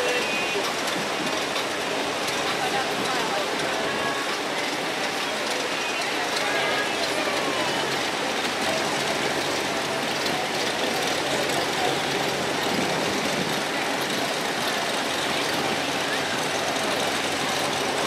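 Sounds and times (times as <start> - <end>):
car engines running: 0.0 - 18.0.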